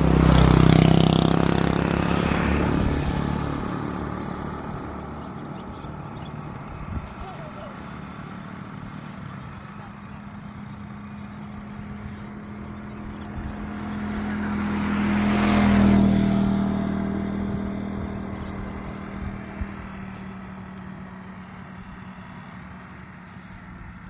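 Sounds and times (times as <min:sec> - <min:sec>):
steady engine hum: 0:00.0 - 0:24.0
vehicle passing by: 0:00.0 - 0:24.0.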